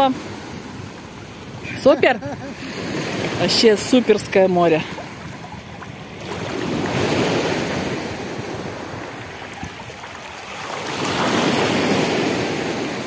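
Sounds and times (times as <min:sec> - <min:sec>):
sea waves lapping: 0:00.0 - 0:13.0.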